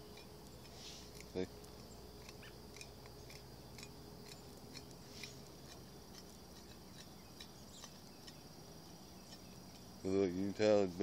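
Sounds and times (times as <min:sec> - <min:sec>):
insect drone: 0:00.0 - 0:11.0
small ticks: 0:00.1 - 0:09.9.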